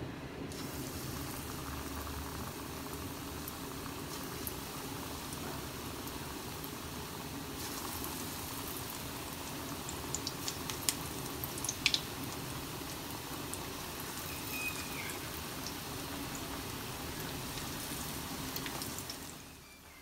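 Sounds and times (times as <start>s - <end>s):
deep-frying sizzle: 0.0s - 20.0s
batter crackling and popping in oil: 0.5s - 20.0s.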